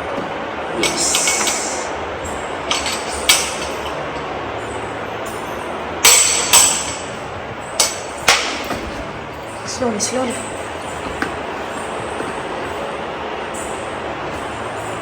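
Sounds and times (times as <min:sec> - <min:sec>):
hard objects clinking: 0:00.0 - 0:15.0.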